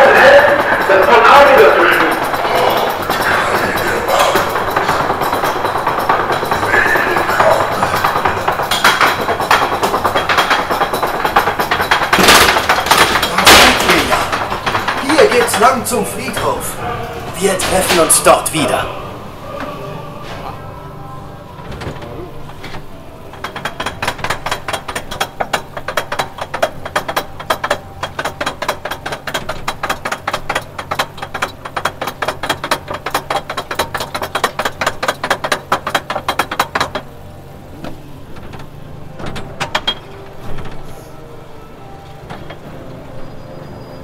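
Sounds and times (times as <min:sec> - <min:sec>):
ratchet clicking rapidly: 0:00.0 - 0:16.8, 0:22.4 - 0:40.9
low steady hum: 0:00.0 - 0:44.0.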